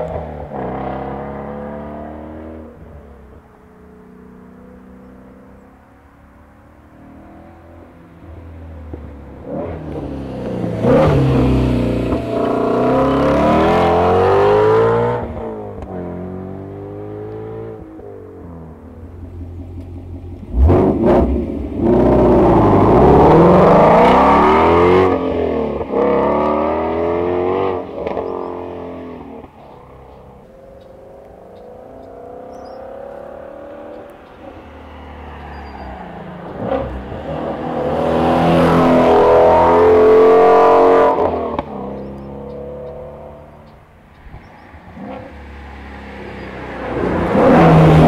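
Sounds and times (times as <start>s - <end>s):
car engine revving: 0.0s - 5.6s, 6.8s - 48.0s.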